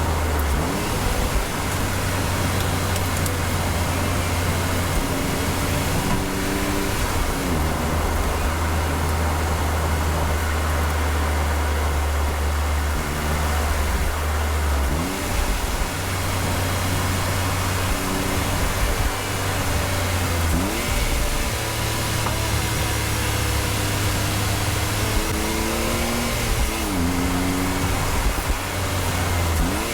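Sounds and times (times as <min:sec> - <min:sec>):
car engine revving: 0:00.0 - 0:29.9
tyre and road noise: 0:00.0 - 0:29.9.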